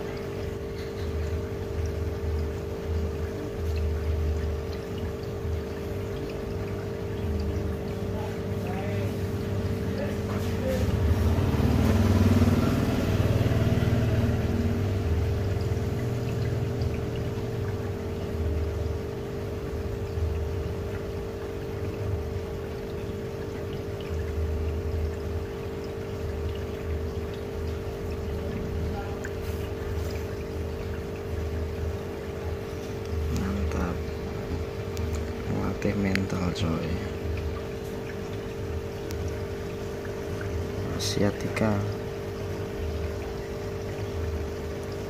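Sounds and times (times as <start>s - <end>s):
aquarium pump humming: 0.0s - 45.0s
water trickling: 0.0s - 45.0s.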